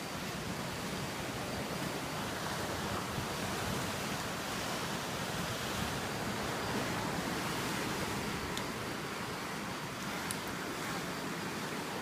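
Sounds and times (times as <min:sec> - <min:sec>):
surf breaking on rocky shore: 0:00.0 - 0:12.0.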